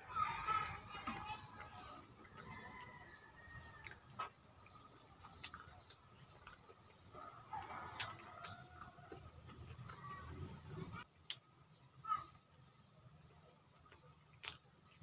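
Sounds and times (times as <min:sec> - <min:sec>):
chewing clicks and smacks: 0:01.0 - 0:11.5, 0:13.2 - 0:15.0.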